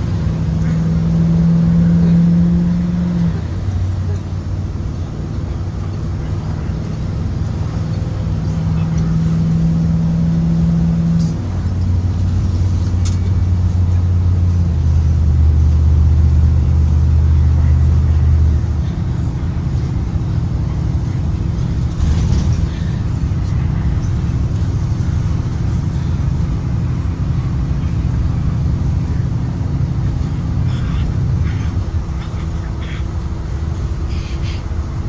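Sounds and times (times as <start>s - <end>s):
bus engine drone: 0.0s - 35.0s
road rumble: 0.0s - 35.0s.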